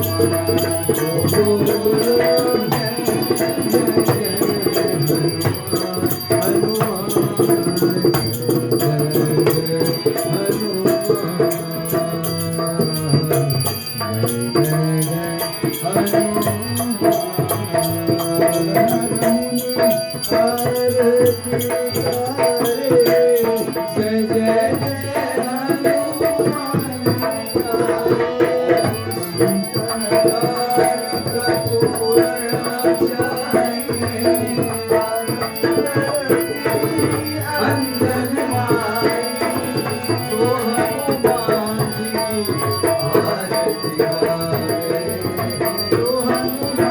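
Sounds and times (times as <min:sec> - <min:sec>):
hand drum: 0:00.0 - 0:46.9
rattling hand percussion: 0:00.0 - 0:46.9
voices singing devotional song: 0:00.0 - 0:46.9.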